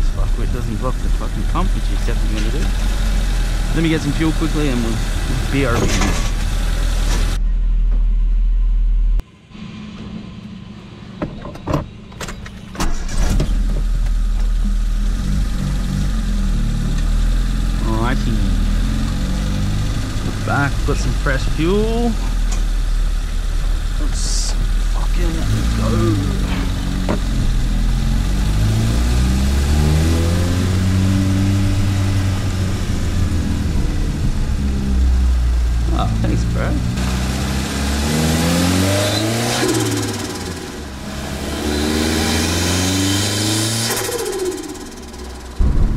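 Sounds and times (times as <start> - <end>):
car engine starting and idling: 0.0 - 45.9.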